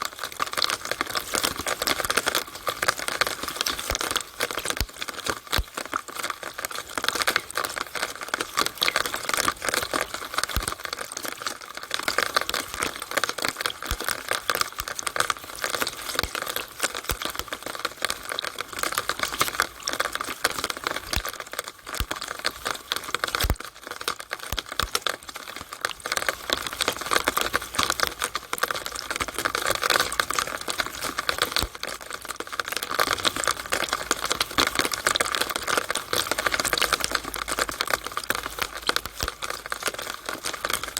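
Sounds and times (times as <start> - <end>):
rainwater dripping in downspout: 0.0 - 40.9.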